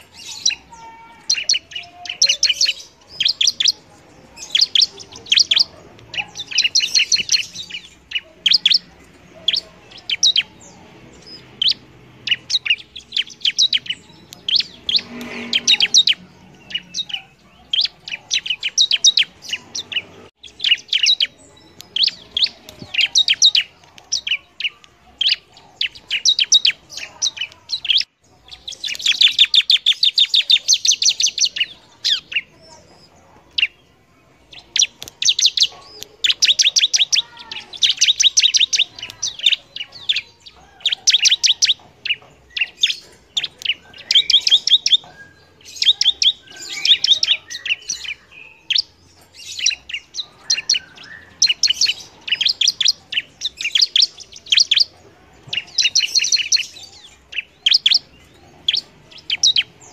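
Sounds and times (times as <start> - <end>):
bird chirping and trilling: 0.0 - 59.9.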